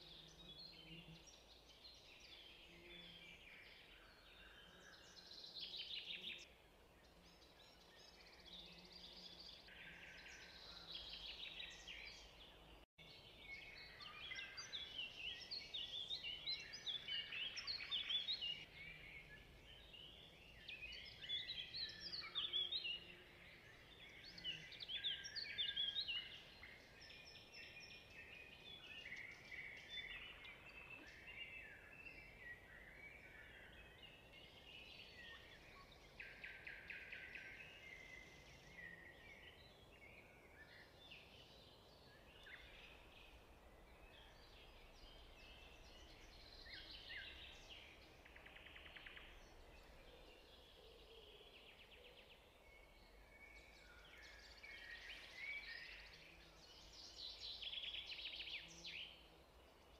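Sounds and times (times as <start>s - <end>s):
faint songbirds chirping: 0.0s - 59.9s
low steady hiss: 0.0s - 59.9s.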